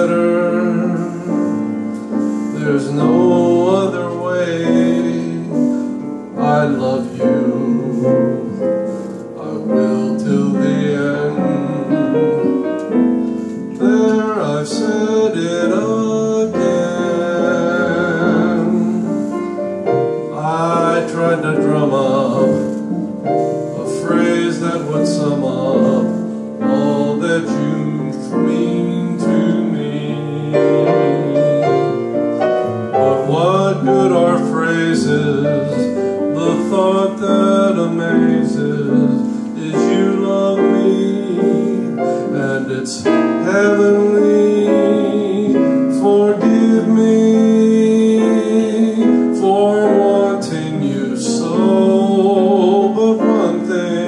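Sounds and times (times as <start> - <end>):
grand piano accompaniment: 0.0 - 54.0
man singing with vibrato: 0.0 - 54.0.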